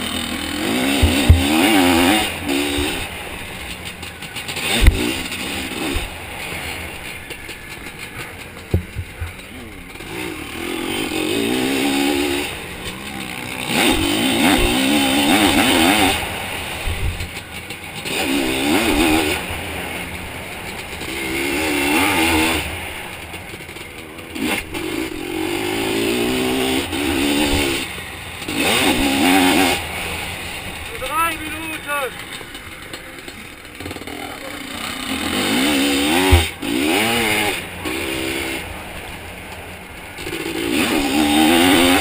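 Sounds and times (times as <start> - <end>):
two-stroke engine revving hard: 0.0 - 42.0.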